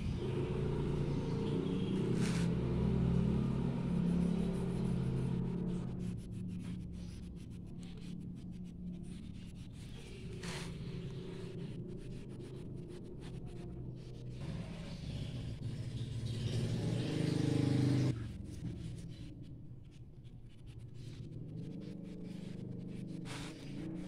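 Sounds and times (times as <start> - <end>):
vehicle engine running: 0.0 - 19.3, 20.7 - 24.0
oil pastel scratching on paper: 0.4 - 15.6, 17.1 - 24.0.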